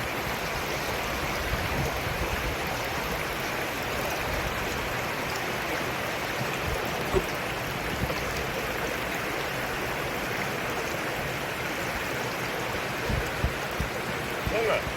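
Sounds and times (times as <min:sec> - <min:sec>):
water rushing over rocks: 0:00.0 - 0:14.9.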